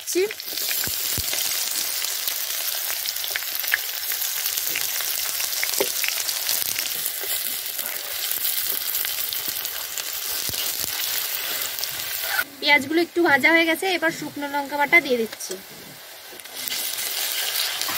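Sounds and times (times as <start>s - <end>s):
onions sizzling in oil: 0.0s - 17.9s.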